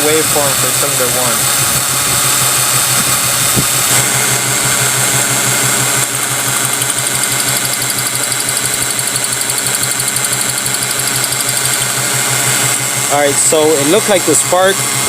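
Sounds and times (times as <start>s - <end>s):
car engine turning over: 0.0s - 15.0s.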